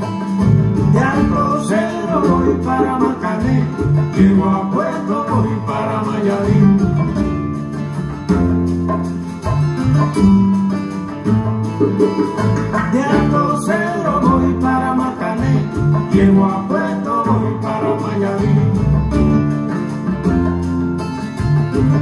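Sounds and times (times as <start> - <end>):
country song with guitar and singing: 0.0 - 22.0.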